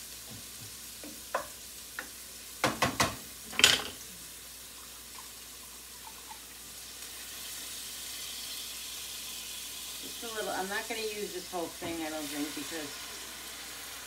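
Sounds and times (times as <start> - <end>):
liquid hissing in hot skillet: 0.0 - 14.0.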